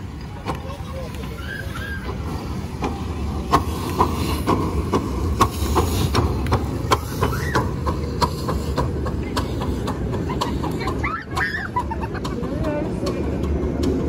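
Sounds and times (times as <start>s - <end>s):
miniature steam train rumbling: 0.0s - 14.0s
sharp rhythmic clicks of train: 0.0s - 14.0s.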